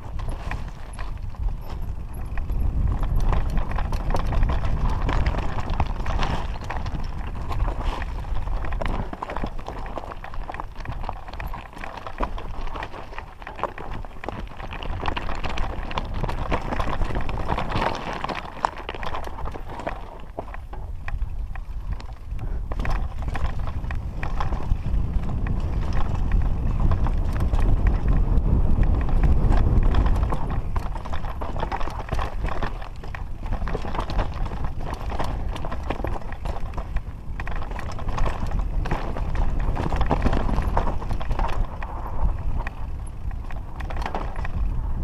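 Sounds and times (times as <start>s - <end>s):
bike rattling: 0.0s - 45.0s
tyres crunching over stones: 0.0s - 45.0s.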